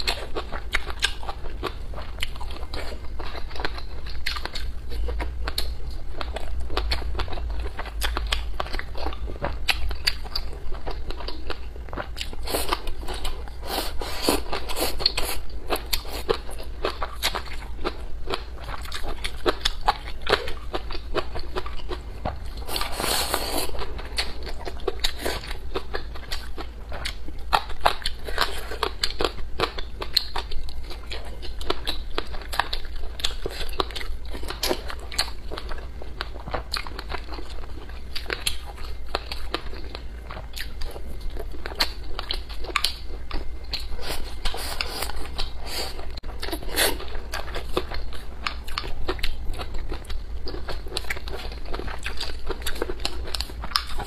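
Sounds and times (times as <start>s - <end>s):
chewing: 0.0s - 54.0s.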